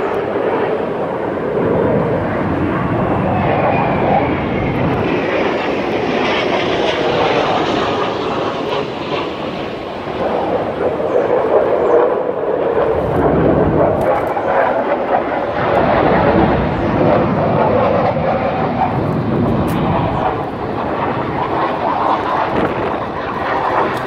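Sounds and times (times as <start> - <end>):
jet engines roaring overhead: 0.0 - 24.0.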